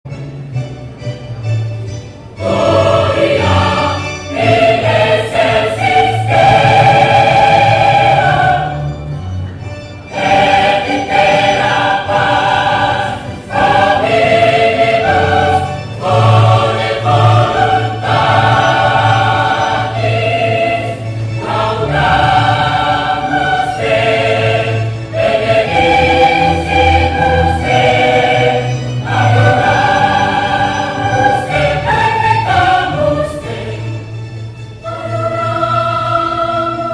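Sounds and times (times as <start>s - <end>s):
choir singing in harmony: 2.3s - 9.1s, 10.1s - 36.9s.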